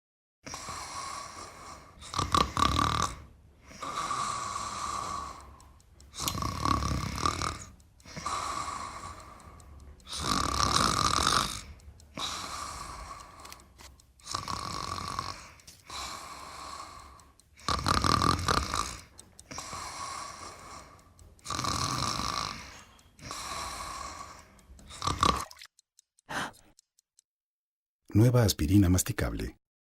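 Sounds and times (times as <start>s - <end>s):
person snoring: 0.5s - 13.5s, 14.2s - 25.5s.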